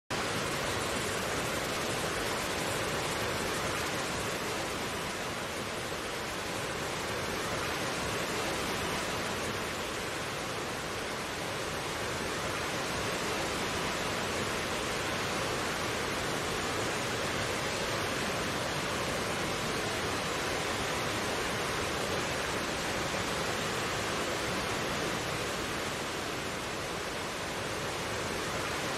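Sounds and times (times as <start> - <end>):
stream water flowing: 0.1 - 28.9.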